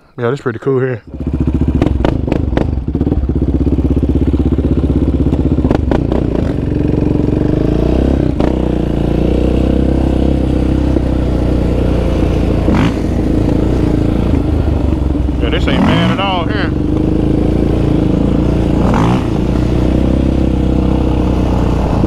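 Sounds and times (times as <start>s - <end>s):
quad engine under throttle: 1.1s - 22.0s.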